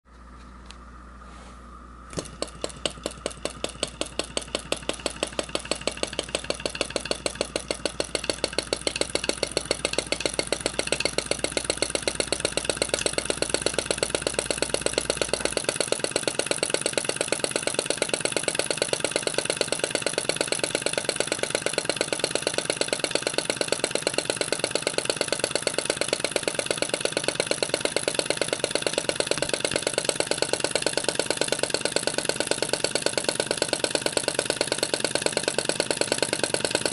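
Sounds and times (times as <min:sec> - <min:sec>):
model engine clacking: 0:02.2 - 0:36.9.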